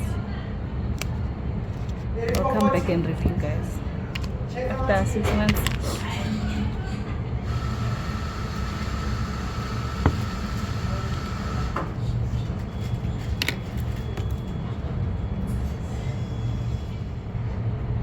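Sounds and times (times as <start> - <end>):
train rumbling inside carriage: 2.2 - 18.0.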